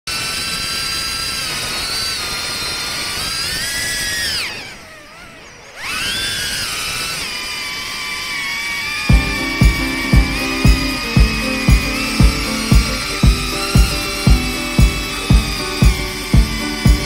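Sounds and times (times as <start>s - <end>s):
quadcopter motors whining: 0.1s - 17.0s.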